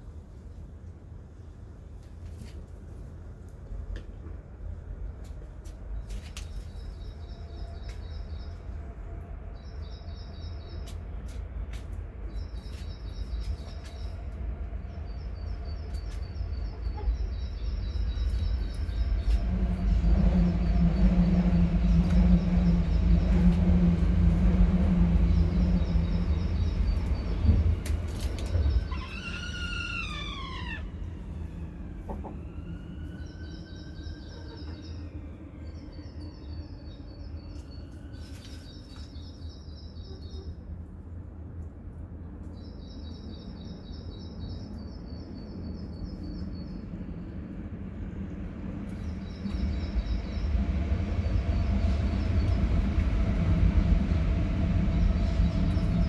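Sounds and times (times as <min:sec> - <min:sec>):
low rumble: 0:03.2 - 0:39.7, 0:45.6 - 0:56.0.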